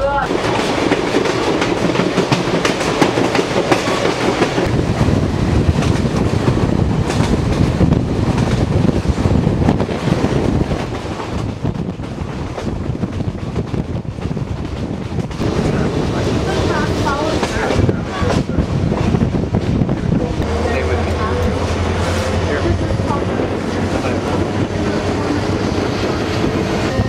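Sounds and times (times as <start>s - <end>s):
train rumble and rushing air: 0.0s - 27.0s
train wheels clicking and knocking: 0.3s - 27.0s.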